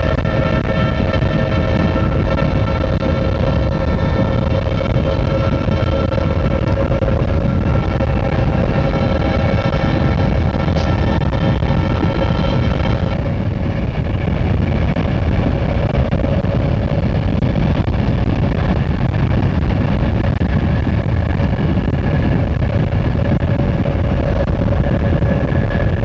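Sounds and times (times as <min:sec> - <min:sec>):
car wind and road noise: 0:00.0 - 0:26.0
diesel locomotive rumble: 0:00.0 - 0:26.0.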